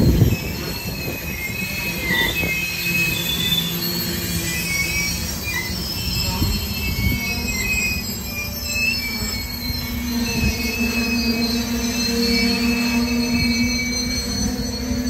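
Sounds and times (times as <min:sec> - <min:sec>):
freight train rumble: 0:00.0 - 0:15.0
train wheels squealing: 0:00.0 - 0:15.0.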